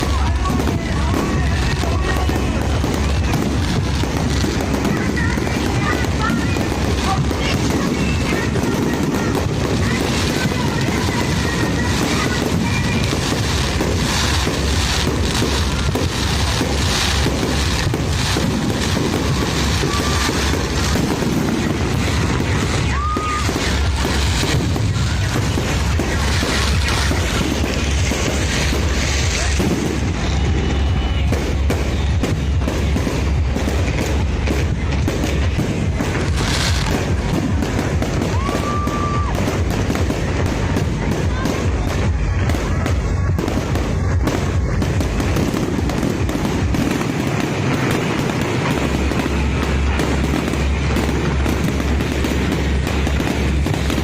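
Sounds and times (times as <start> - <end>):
firework whistle: 0.0 - 54.0
fireworks booming and crackling: 0.0 - 54.0.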